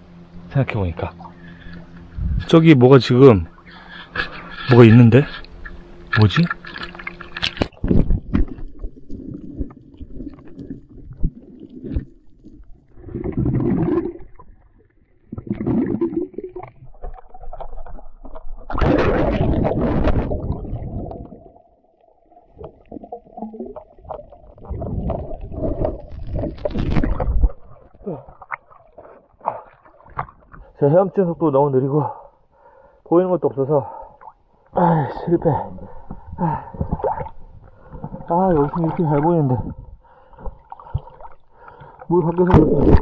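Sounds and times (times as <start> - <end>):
muffled underwater gurgling: 0.5 - 31.0, 33.8 - 43.0
water splashing: 1.1 - 30.7, 35.6 - 43.0.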